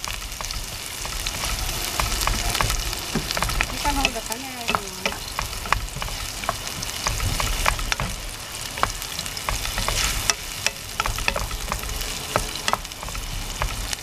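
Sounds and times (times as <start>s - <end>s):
onions sizzling in oil: 0.0s - 14.0s
spatula tapping against pan: 2.0s - 14.0s.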